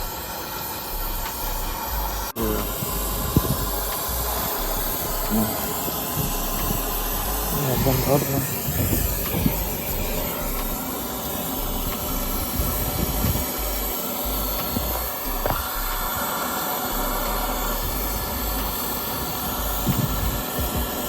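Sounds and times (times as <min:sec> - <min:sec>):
torch flame hissing: 0:00.0 - 0:21.0.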